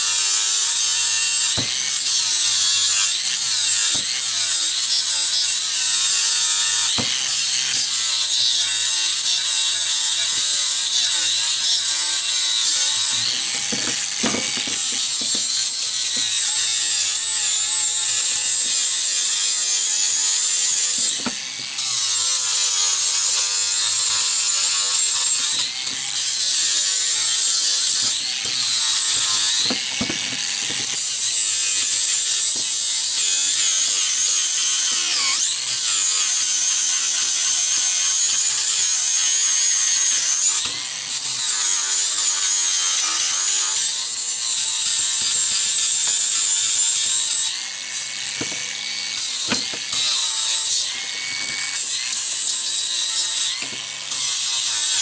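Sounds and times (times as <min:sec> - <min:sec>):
angle grinder grinding steel: 0:00.0 - 0:55.0.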